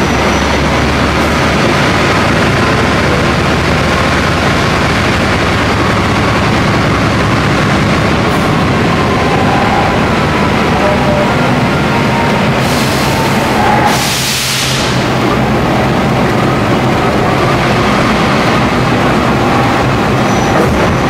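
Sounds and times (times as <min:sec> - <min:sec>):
passenger train rumbling: 0:00.0 - 0:21.0.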